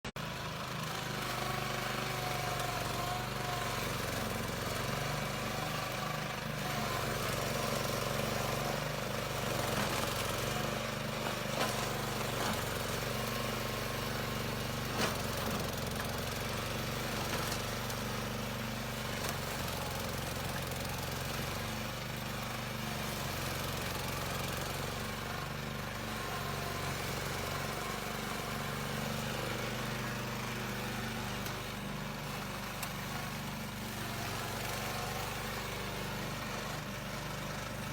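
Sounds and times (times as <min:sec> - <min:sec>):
lawn mower engine running: 0:00.1 - 0:37.9.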